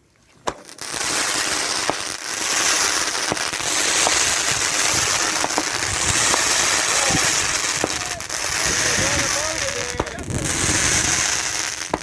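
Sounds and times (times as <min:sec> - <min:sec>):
fireworks crackling hiss: 0:00.2 - 0:12.0
fireworks sharp pops: 0:00.3 - 0:12.0.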